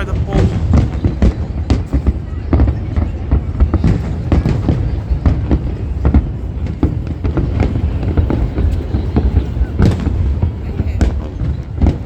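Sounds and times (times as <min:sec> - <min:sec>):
fireworks booms and cracks: 0:00.0 - 0:12.0.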